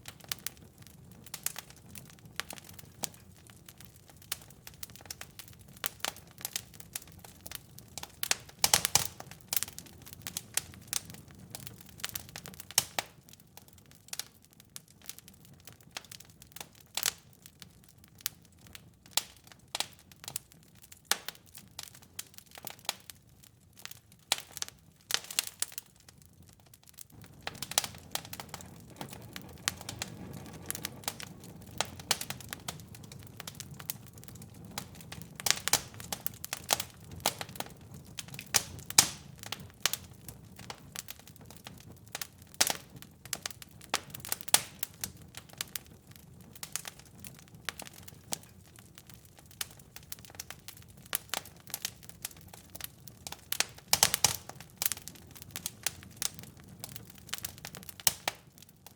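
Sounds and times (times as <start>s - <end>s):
low rumble of burning: 0.0s - 58.9s
wood fire crackling and popping: 0.0s - 58.9s.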